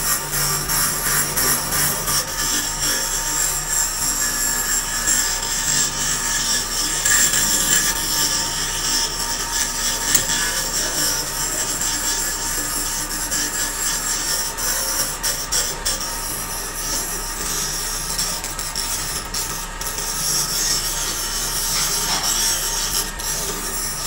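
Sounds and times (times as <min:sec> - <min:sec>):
grinder grinding metal: 0:00.0 - 0:24.0.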